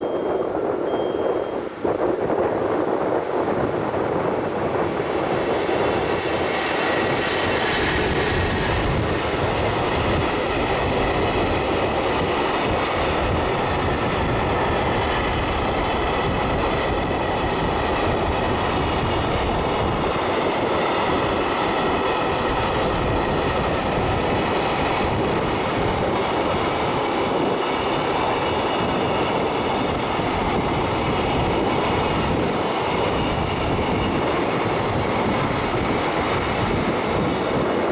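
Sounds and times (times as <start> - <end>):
train wheels rumbling on rails: 0.0 - 37.9
clickety-clack of wheels: 4.1 - 37.9.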